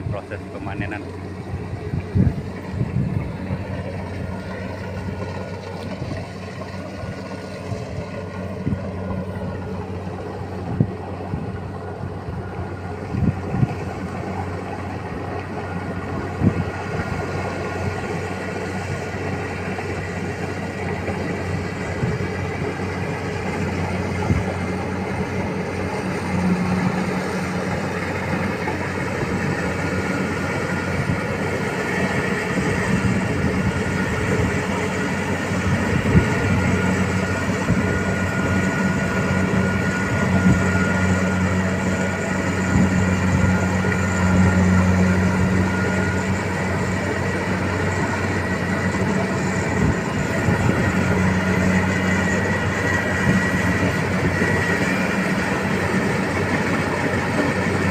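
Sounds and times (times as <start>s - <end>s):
harvester engine droning: 0.0s - 57.9s.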